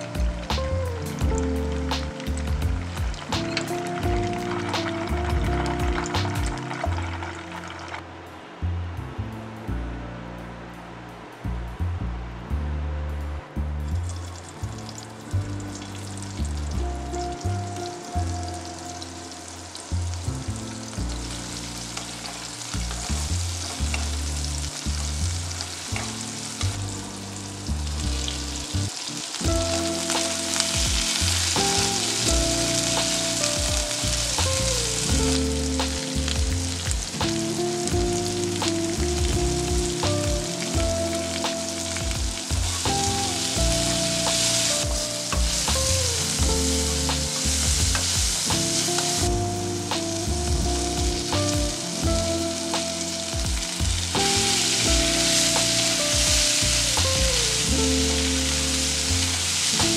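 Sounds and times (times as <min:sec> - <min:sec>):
vegetables sizzling in oil: 0:00.0 - 0:08.0, 0:14.2 - 0:59.9
light background music: 0:00.0 - 0:59.9.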